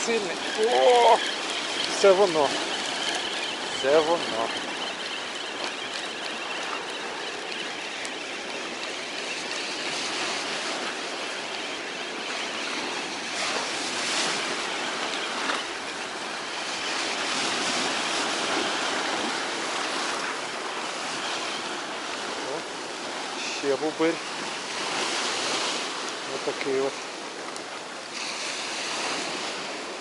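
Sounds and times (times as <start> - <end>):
sea surf washing against pier: 0.0 - 30.0.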